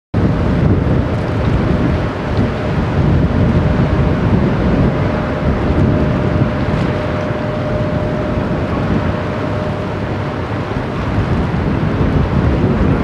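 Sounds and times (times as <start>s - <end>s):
wind buffeting microphone: 0.1s - 13.0s
diesel engine drone: 0.2s - 13.0s
faint steady hum: 0.2s - 13.0s.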